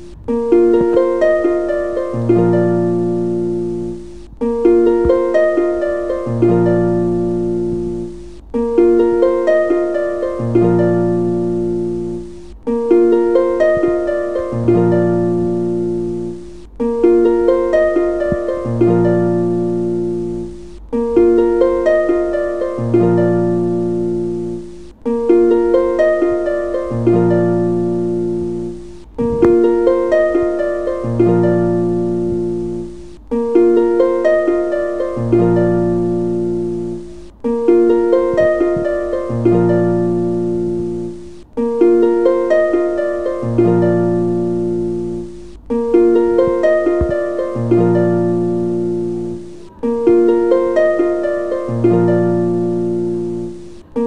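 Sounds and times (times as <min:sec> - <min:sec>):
instrumental music loop: 0:00.0 - 0:54.0.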